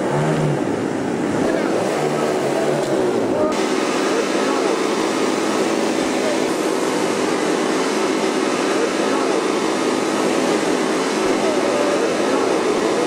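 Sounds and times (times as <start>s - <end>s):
model aircraft engines droning: 0.0s - 13.0s
crowd murmuring: 1.3s - 13.0s.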